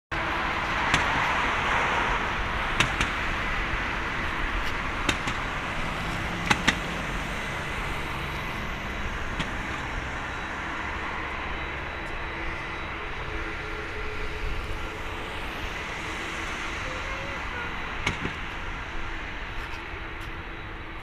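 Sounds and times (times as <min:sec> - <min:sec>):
jet engines at taxi thrust: 0:00.1 - 0:21.0.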